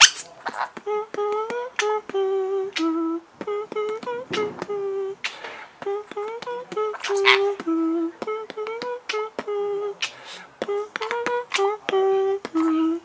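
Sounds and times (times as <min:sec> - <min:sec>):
man beatboxing: 0:00.0 - 0:13.0.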